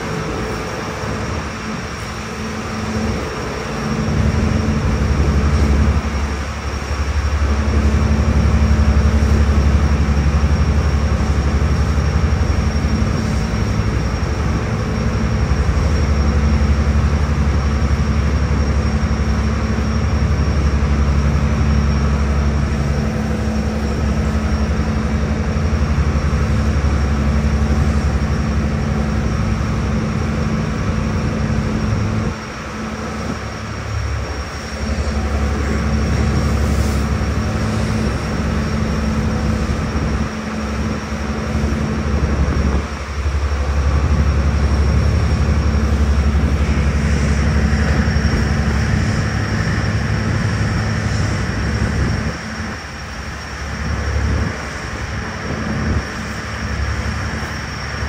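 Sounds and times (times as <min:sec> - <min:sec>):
ferry engines droning: 0:00.0 - 0:58.0.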